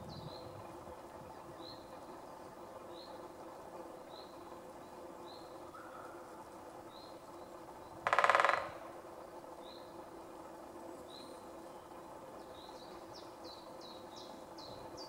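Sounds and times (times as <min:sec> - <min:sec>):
woodpecker drumming: 0:01.7 - 0:14.6.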